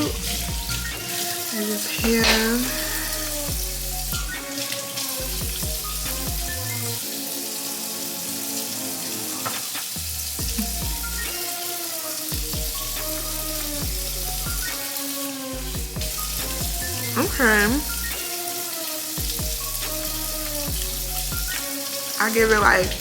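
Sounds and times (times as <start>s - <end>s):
background music: 0.0s - 23.0s
steady hiss: 0.0s - 23.0s.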